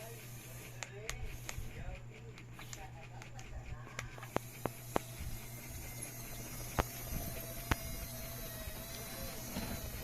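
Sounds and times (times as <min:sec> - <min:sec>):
small motor whining: 0:00.0 - 0:10.0.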